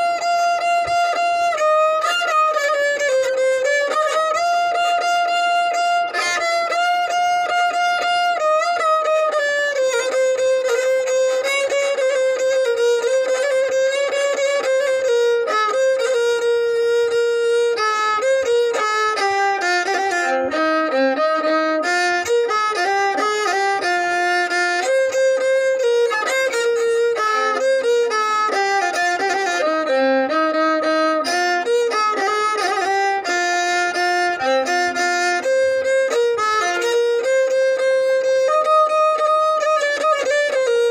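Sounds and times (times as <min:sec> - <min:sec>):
solo violin melody: 0:00.0 - 0:40.9.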